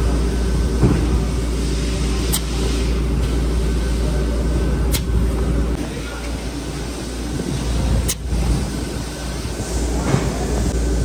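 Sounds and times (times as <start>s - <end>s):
factory machinery hum: 0.0s - 11.0s.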